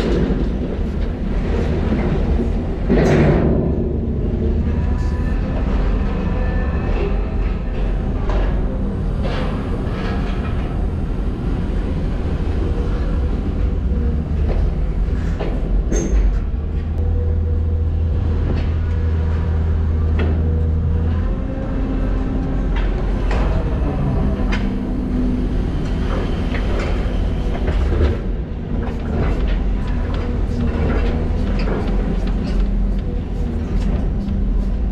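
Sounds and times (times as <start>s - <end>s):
heavy diesel machinery engine drone: 0.0s - 34.9s.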